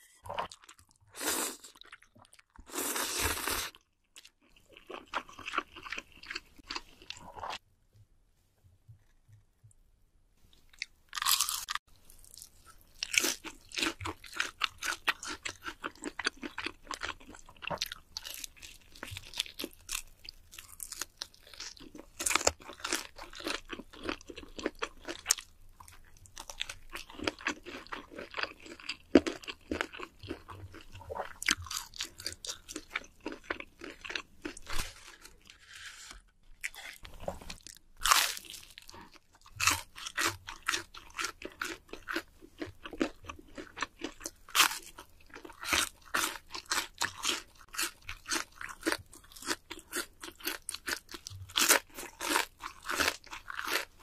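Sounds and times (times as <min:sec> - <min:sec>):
crunching and chewing crispy food: 0:00.3 - 0:07.6, 0:10.7 - 0:35.8, 0:36.6 - 0:54.0.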